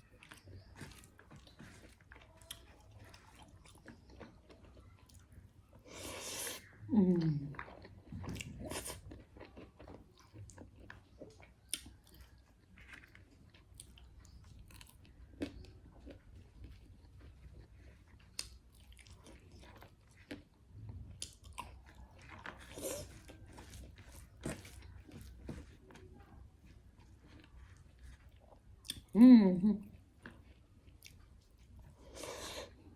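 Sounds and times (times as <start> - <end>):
person chewing crunchy food: 0.0 - 29.2, 29.8 - 32.9.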